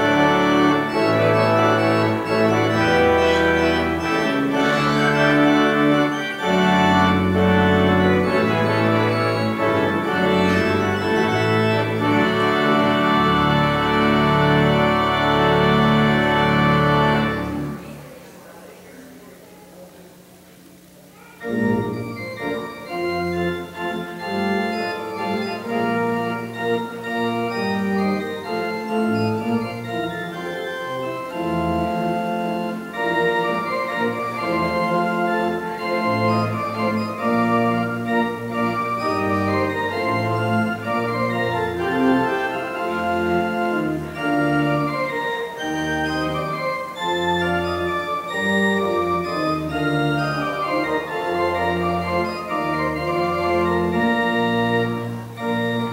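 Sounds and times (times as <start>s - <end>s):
church organ playing: 0.0s - 18.1s, 21.4s - 55.9s.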